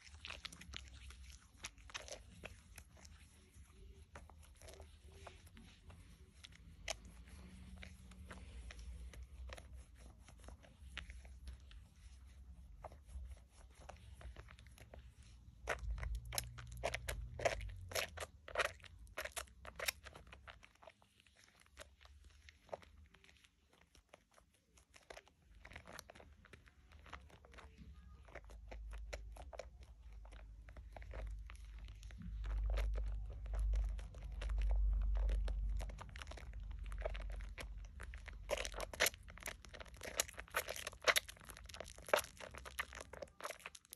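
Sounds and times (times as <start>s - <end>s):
hands squishing soapy lather: 0.0s - 43.9s.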